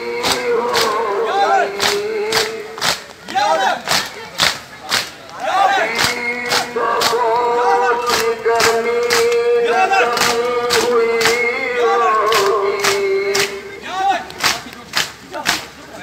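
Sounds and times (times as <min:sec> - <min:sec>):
men chanting long notes: 0:00.0 - 0:03.9, 0:05.3 - 0:14.7.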